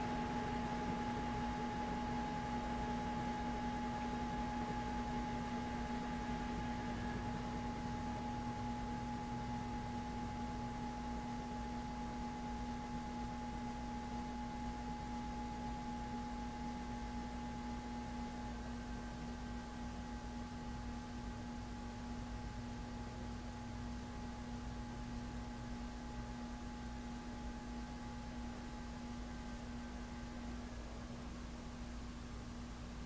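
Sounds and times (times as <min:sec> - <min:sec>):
ceiling fan motor humming: 0:00.0 - 0:33.0.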